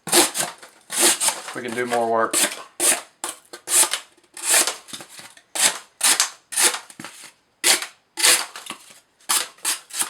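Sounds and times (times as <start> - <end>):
knife slicing cardboard: 0.0 - 3.1, 3.7 - 4.8, 5.6 - 10.0.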